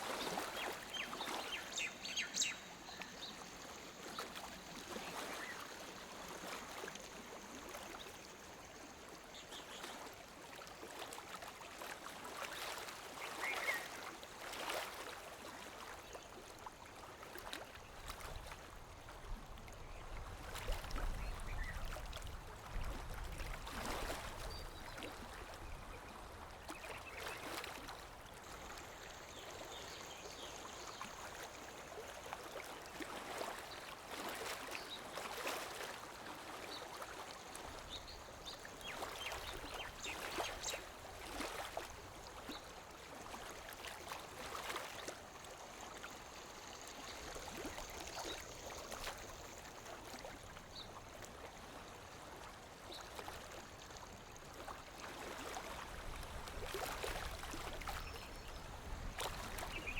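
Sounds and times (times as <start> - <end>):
small waves lapping on shore: 0.0 - 59.9
steady water hiss: 0.0 - 59.9.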